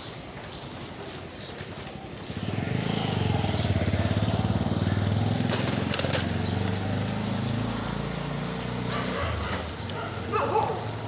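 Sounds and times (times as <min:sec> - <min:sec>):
small motorcycle engine passing: 0:02.1 - 0:11.0.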